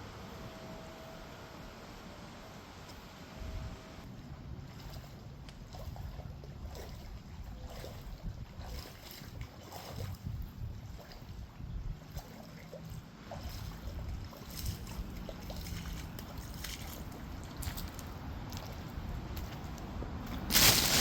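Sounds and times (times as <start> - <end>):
wind buffeting microphone: 3.4 - 21.0.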